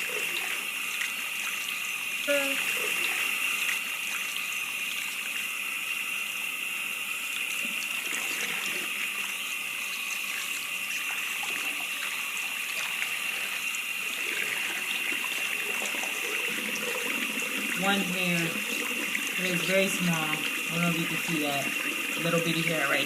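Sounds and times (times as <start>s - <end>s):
water running from a tap: 0.0s - 23.0s.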